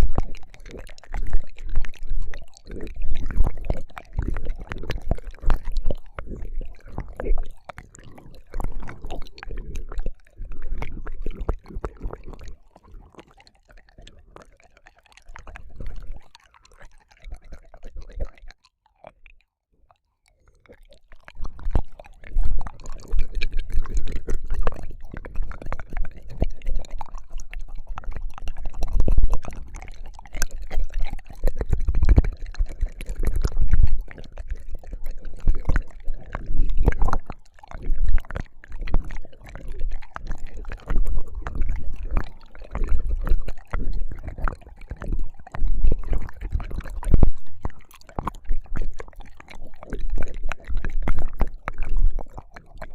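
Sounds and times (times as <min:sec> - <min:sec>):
wet mouth smacks and slurps: 0:00.0 - 0:52.9.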